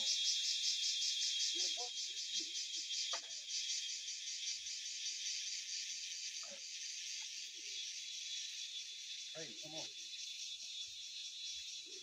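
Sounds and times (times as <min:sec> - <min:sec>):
pulsing insect chorus: 0:00.0 - 0:12.0.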